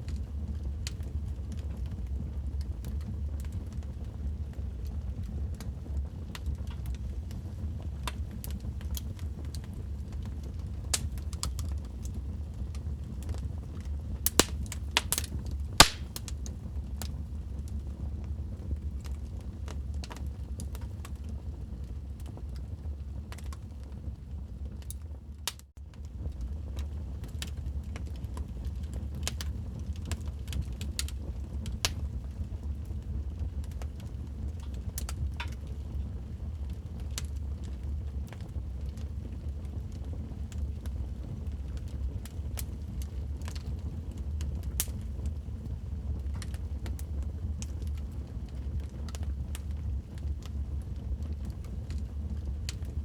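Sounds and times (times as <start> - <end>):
wood fire crackling: 0.1 - 53.0.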